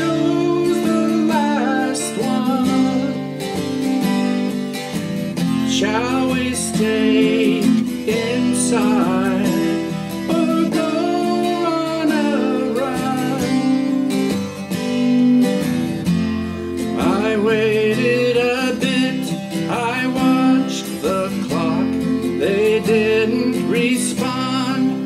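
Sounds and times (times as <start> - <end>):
man singing: 0.0 - 3.8, 5.4 - 14.5, 16.8 - 25.0
acoustic guitar chords: 0.0 - 25.0.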